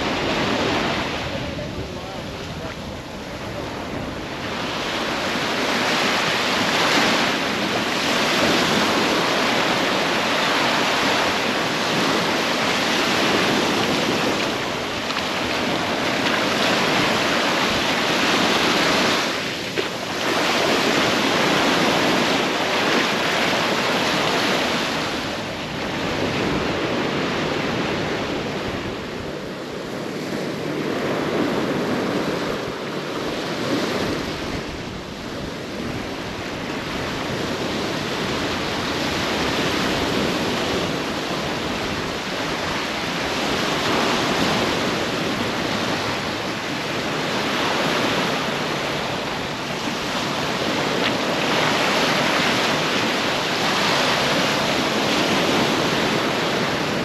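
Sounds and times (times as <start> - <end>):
sea surf washing: 0.0 - 57.0
wind on the microphone: 0.0 - 57.0.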